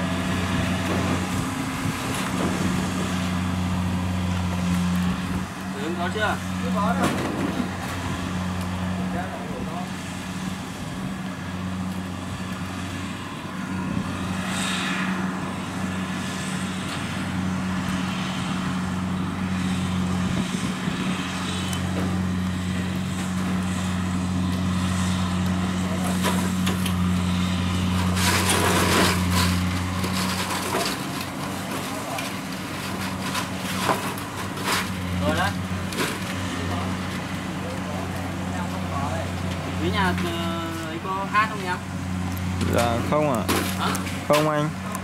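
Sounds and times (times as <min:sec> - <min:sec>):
combine harvester engine hum: 0:00.0 - 0:45.0.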